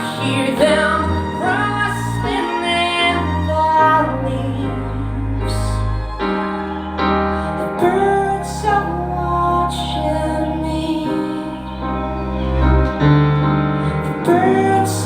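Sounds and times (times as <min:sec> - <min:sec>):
held gliding melody line: 0:00.0 - 0:15.0
piano: 0:00.0 - 0:15.0
slow gentle live song: 0:00.0 - 0:15.0.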